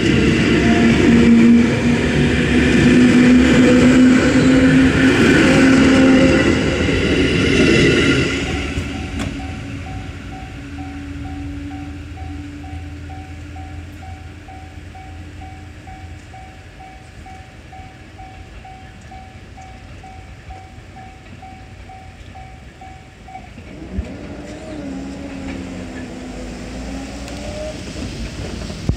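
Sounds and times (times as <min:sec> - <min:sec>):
railroad crossing bell ringing: 0:00.0 - 0:27.7.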